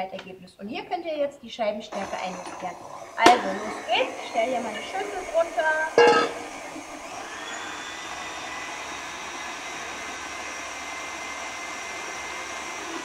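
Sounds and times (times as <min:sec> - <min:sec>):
stand mixer motor whining: 0:01.9 - 0:13.0.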